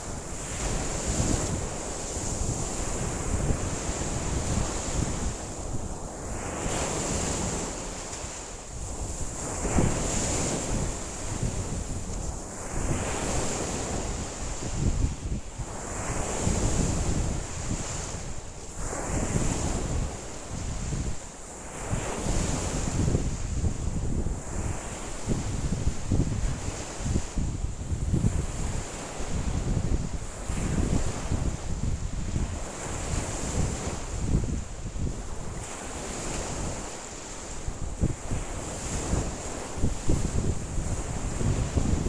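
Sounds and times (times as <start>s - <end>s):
wind buffeting microphone: 0.0s - 8.1s, 8.8s - 42.0s.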